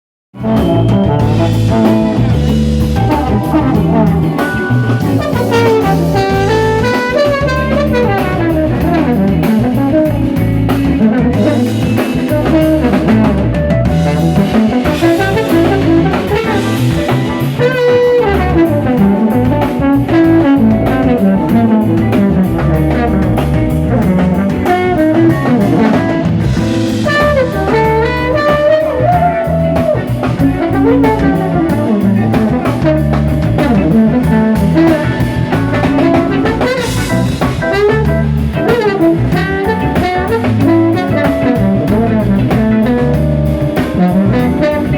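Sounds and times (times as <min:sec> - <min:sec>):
drum kit: 0:00.3 - 0:44.9
electric guitar: 0:00.4 - 0:44.9
horns playing melodic lines: 0:00.4 - 0:44.9.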